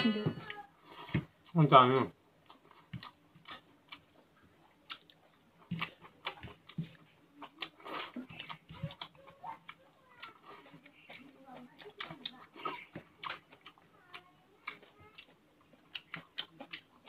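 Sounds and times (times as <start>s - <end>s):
person chewing with lip smacks: 2.4s - 17.0s.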